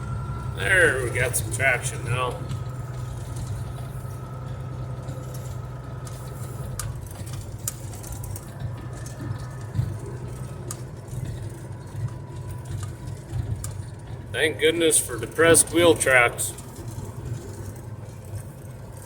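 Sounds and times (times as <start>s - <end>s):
engine drone inside vehicle cab: 0.0s - 19.0s.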